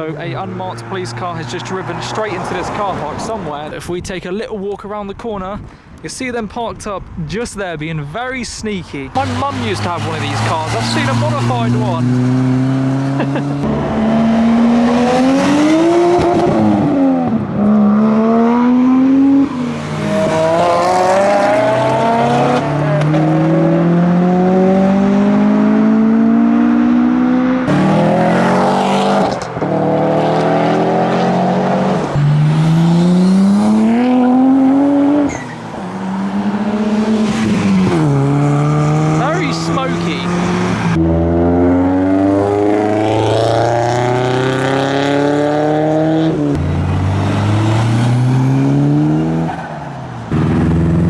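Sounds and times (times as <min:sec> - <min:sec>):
cars accelerating: 0:00.0 - 0:03.6, 0:09.1 - 0:51.0.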